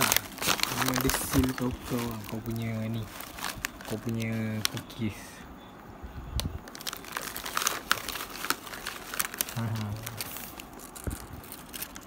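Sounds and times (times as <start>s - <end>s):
plastic packaging crinkling: 0.0s - 5.4s, 6.4s - 12.0s.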